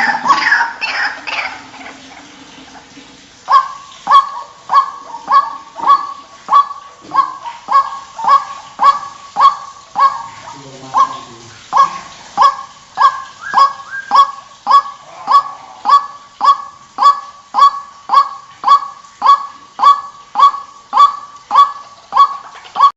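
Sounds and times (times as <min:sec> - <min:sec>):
waterhen harsh calls: 0:00.0 - 0:22.9.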